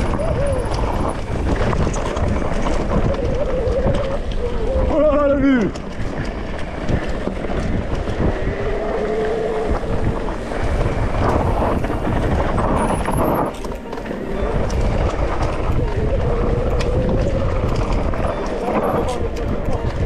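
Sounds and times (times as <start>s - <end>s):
bike rattling with small clicks: 0.0s - 20.0s
tyres on dirt: 0.0s - 20.0s
wind buffeting the microphone: 0.0s - 20.0s.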